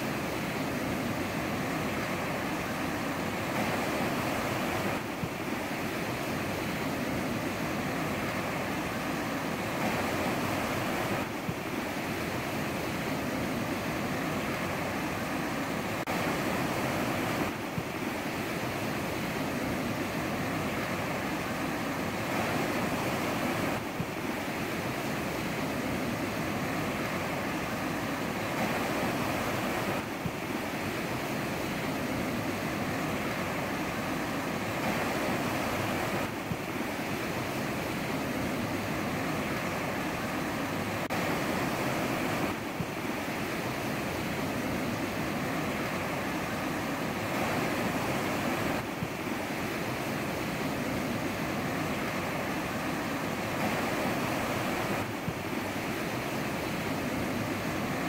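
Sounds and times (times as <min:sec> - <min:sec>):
ocean surf washing on shore: 0:00.0 - 0:58.0.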